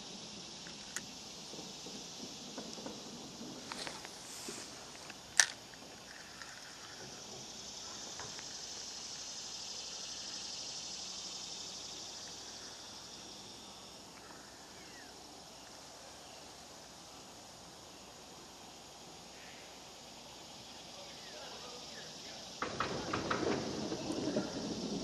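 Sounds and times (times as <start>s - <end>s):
high insect drone: 0.0s - 25.0s.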